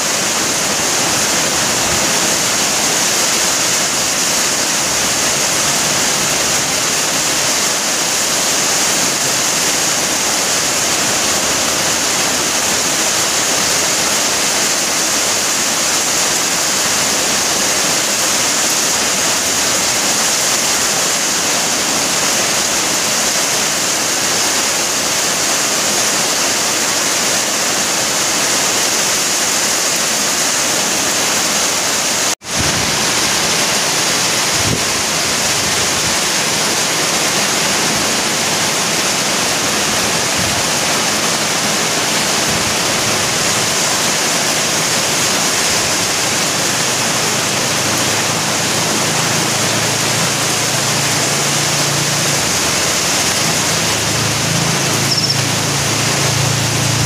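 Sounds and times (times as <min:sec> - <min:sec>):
heavy rain on roofs and street: 0:00.0 - 0:57.0.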